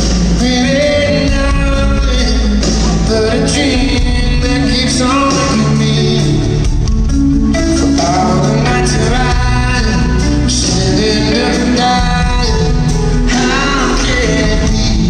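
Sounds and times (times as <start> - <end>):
live rock band playing: 0.0 - 15.0
man singing lead: 0.0 - 15.0.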